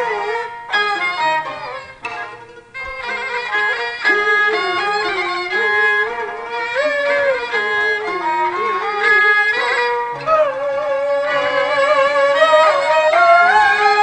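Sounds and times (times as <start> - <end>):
bowed fiddles playing opera music: 0.0 - 14.0.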